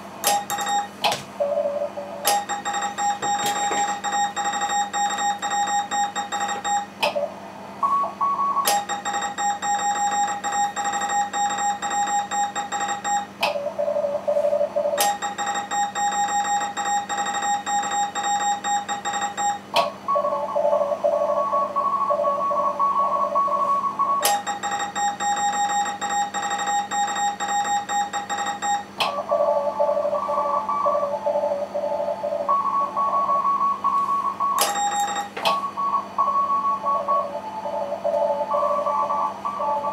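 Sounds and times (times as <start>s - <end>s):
morse code tones: 0.2s - 7.0s, 7.8s - 39.9s.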